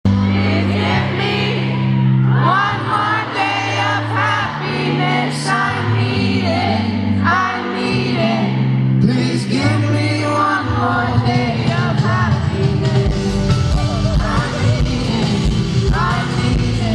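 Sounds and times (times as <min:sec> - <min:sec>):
person singing: 0:02.3 - 0:16.9.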